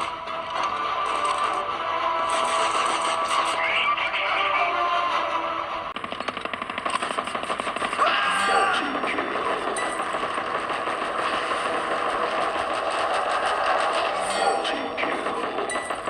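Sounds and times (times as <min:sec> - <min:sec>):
helicopter rotor beating: 0:00.0 - 0:16.0
steady whine: 0:00.0 - 0:16.0.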